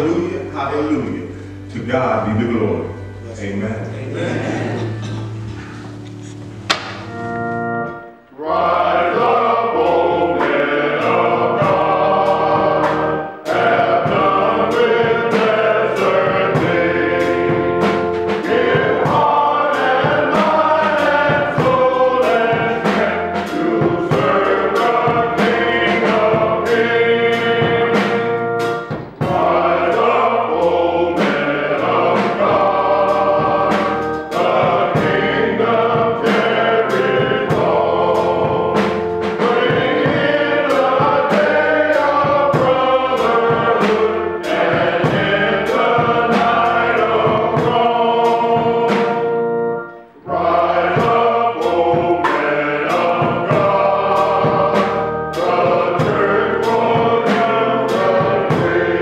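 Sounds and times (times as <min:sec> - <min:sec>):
men's choir singing a hymn: 0:00.0 - 0:59.0
steady accompaniment beat: 0:00.0 - 0:59.0.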